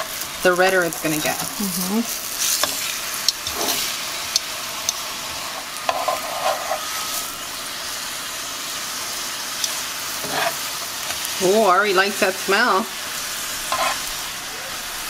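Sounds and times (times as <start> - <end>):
tortillas sizzling in hot oil: 0.0 - 15.0.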